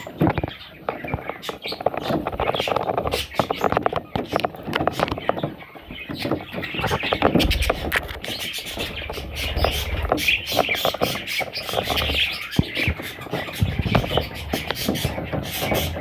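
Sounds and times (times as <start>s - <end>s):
bird chicks chirping: 0.0s - 16.0s.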